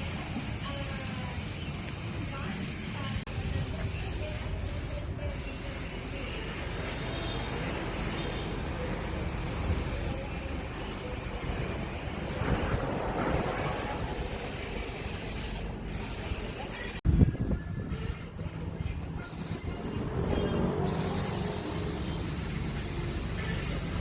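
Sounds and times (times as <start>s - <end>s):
spray gun hissing: 0.0s - 17.0s, 20.8s - 24.0s.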